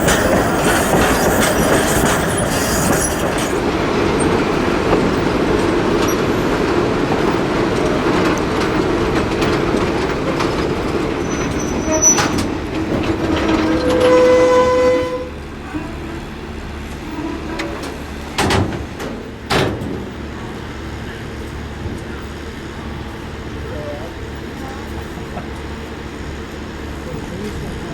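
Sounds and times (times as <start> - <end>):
train rumble and wheel noise: 0.0 - 27.9.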